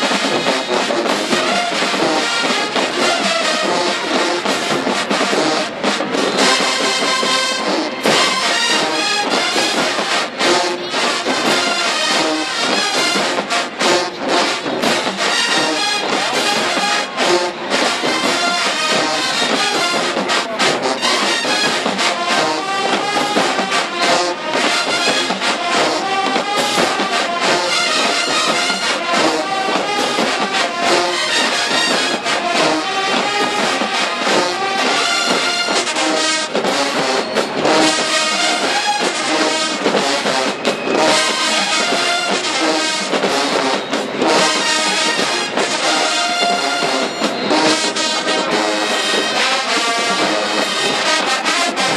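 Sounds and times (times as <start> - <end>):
drums: 0.0 - 51.9
marching band brass: 0.0 - 51.9.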